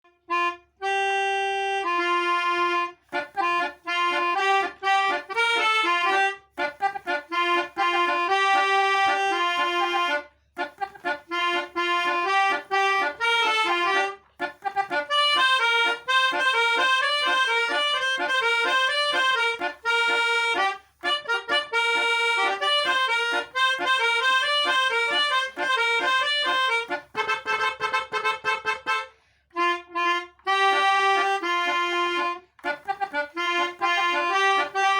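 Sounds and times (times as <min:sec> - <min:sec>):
bus horn playing a tune: 0:00.1 - 0:34.9.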